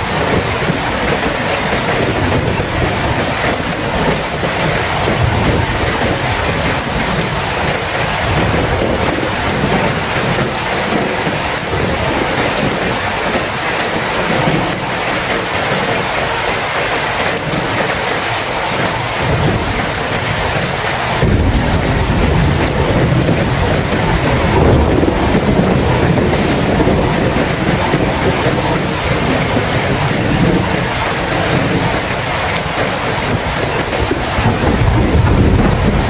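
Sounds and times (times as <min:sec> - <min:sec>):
low thunder rumble: 0:00.0 - 0:14.9, 0:18.9 - 0:36.0
heavy rain hissing: 0:00.0 - 0:36.0.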